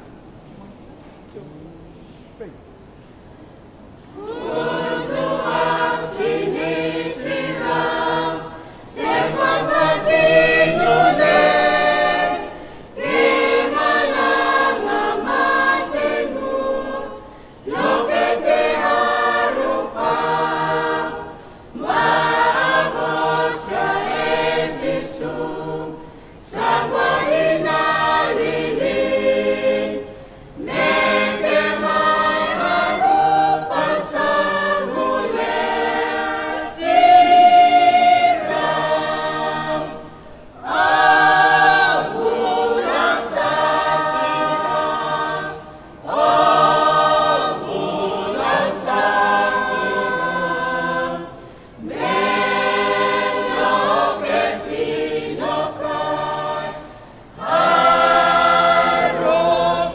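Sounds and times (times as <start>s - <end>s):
choir singing a hymn unaccompanied: 3.6s - 59.9s.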